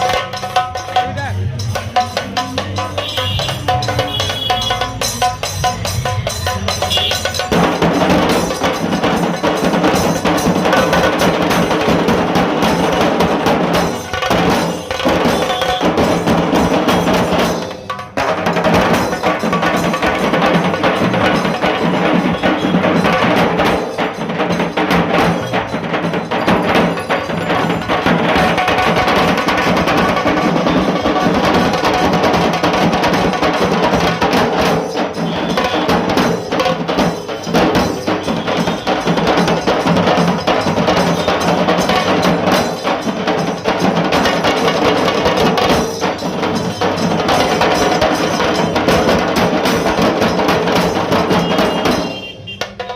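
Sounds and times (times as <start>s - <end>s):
drum ensemble playing fast beats: 0.0s - 52.9s.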